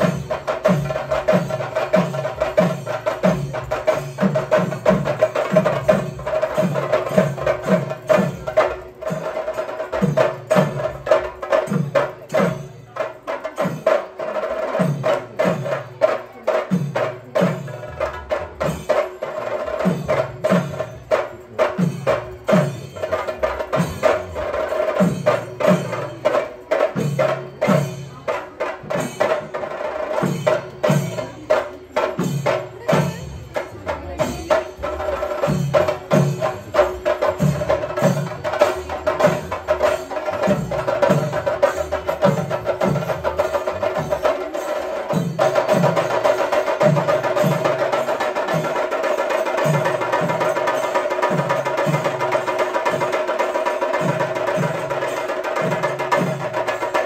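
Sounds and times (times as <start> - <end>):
fast drumming with sticks: 0.0 - 57.0.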